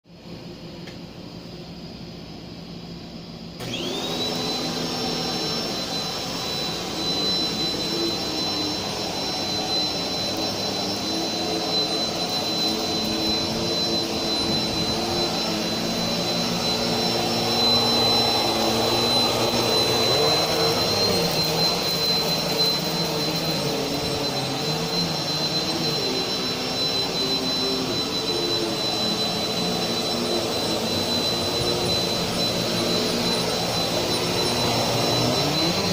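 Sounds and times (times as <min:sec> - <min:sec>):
vacuum cleaner motor whine: 0:00.1 - 0:35.9.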